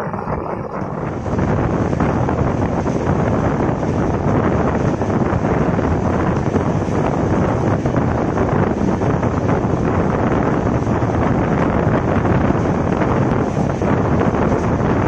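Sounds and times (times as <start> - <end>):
train running on track: 0.0 - 15.0
wind buffeting microphone: 0.0 - 15.0.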